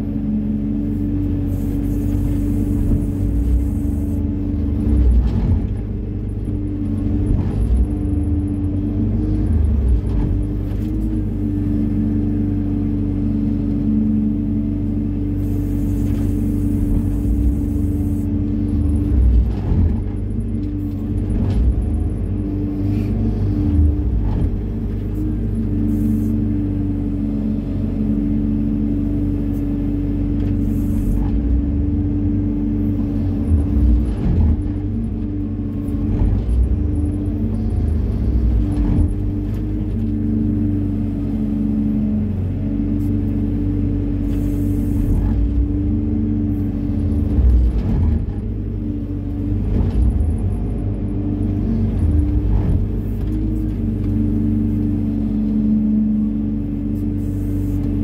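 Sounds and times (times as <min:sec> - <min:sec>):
excavator diesel engine and hydraulics: 0:00.0 - 0:58.0.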